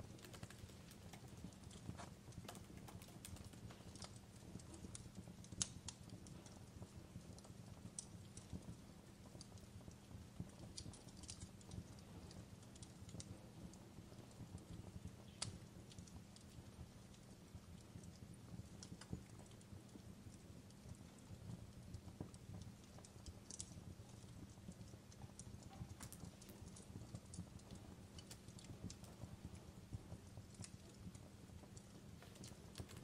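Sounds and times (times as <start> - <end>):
fireplace crackling: 0.0 - 33.0.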